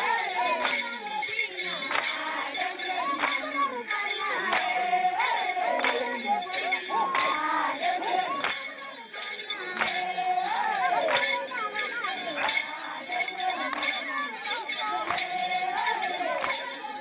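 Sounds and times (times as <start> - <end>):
jingling percussion: 0.0 - 17.0
wavering voices singing: 0.0 - 17.0.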